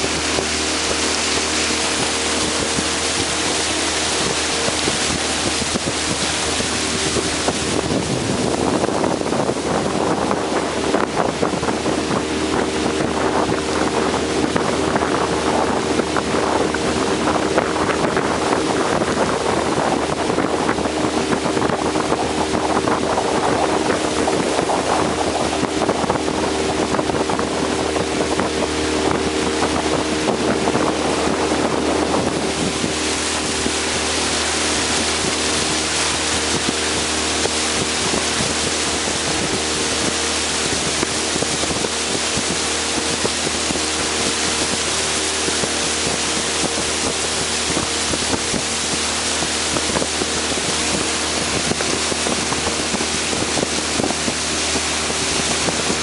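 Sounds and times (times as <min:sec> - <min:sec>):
boat motor running: 0:00.0 - 0:56.0
water rushing along hull: 0:00.0 - 0:56.0
wind buffeting microphone: 0:00.0 - 0:56.0.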